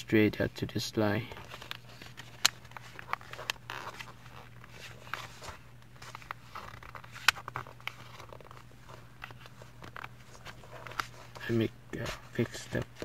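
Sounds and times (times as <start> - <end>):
low steady hum: 0.0 - 13.0
paper rustling and creasing: 1.3 - 13.0.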